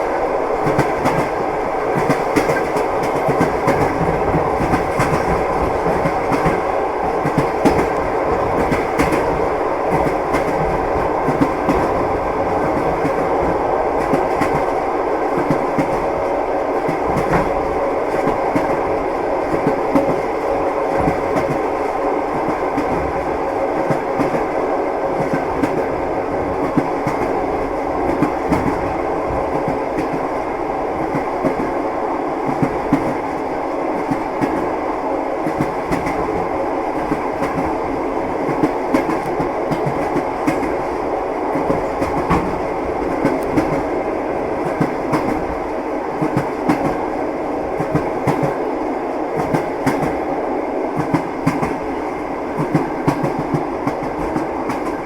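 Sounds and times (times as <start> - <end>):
train running rumble: 0.0 - 55.0
train wheels clacking over rails: 0.6 - 30.4, 32.4 - 50.3, 50.9 - 55.0.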